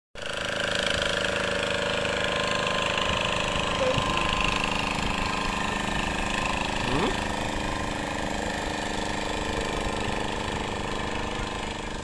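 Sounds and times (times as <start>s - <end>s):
engine running steadily: 0.2s - 12.0s.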